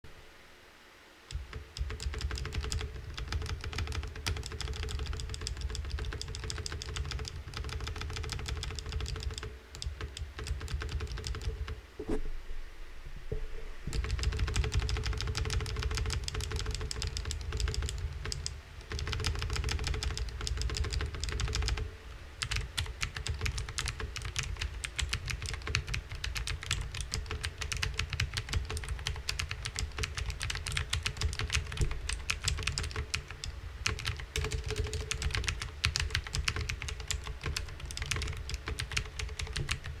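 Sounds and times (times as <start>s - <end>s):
mechanical keyboard clicking: 1.3s - 11.8s, 13.9s - 40.0s.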